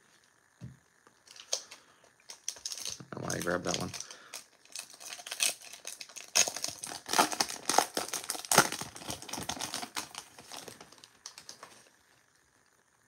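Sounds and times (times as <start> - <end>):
foil wrapper crinkling: 1.2 - 11.9.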